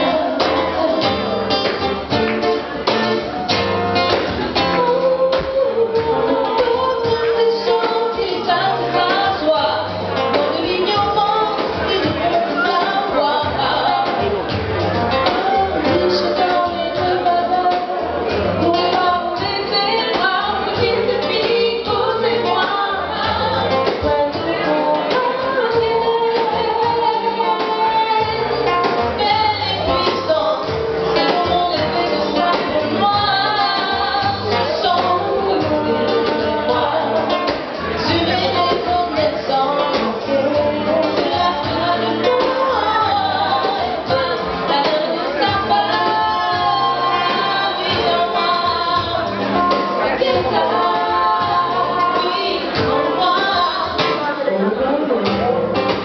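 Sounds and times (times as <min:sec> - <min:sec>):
women singing in harmony: 0:00.0 - 0:01.5, 0:04.6 - 0:14.5, 0:15.3 - 0:54.2
acoustic guitar: 0:00.0 - 0:56.0.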